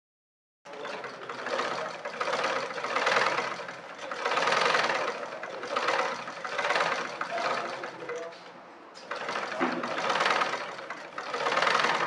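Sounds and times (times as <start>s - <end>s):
sewing machine stitching rattle: 0.7s - 12.0s.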